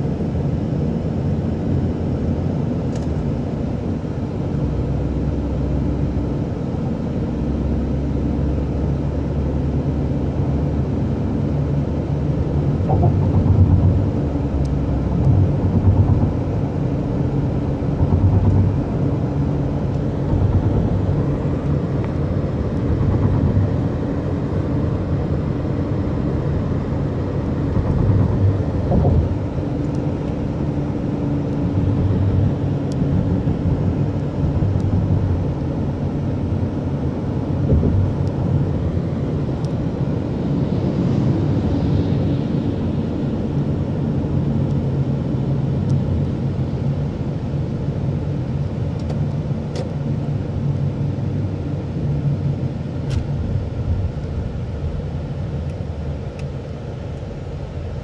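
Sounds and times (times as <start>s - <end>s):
car road noise rumble: 0.0s - 58.0s
low engine hum: 0.0s - 58.0s.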